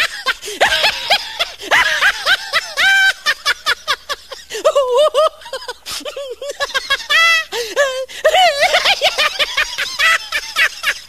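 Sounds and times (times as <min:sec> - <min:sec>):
person giggling and chuckling: 0:00.0 - 0:11.0.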